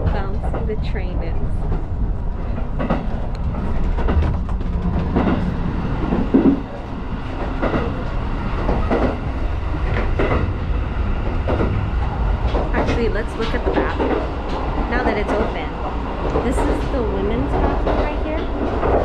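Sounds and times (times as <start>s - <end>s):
soft knocks of train: 0.0s - 19.0s
train carriage low rumble: 0.0s - 19.0s.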